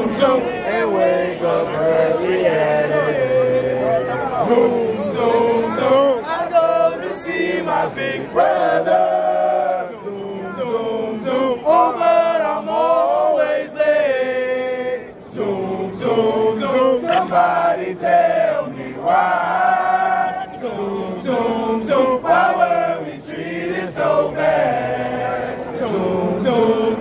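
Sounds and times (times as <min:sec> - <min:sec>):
men chanting in unison: 0:00.0 - 0:27.0.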